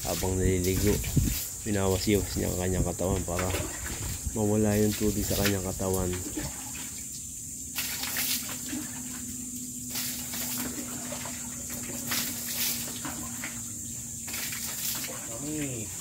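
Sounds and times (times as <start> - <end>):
water splashing on concrete floor: 0.0 - 16.0.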